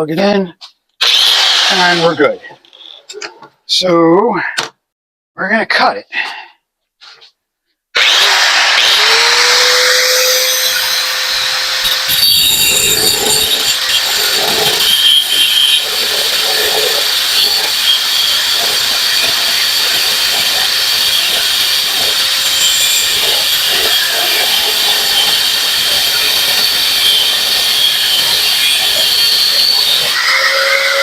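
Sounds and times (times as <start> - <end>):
angle grinder cutting metal: 1.0 - 3.0, 8.0 - 31.0.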